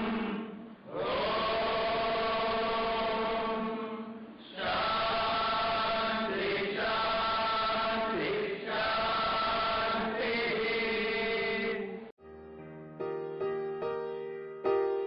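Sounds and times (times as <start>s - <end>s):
voices chanting a prayer: 0.0s - 12.1s.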